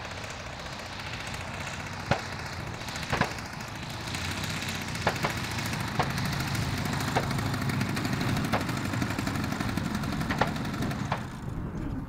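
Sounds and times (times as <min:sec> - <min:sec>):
model plane petrol engine idling: 0:00.0 - 0:12.0.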